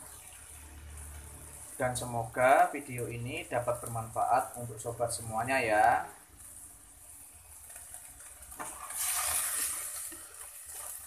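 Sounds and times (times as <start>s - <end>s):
meat sizzling in a wok: 0.0s - 11.0s
wooden spatula scraping wok: 0.9s - 11.0s.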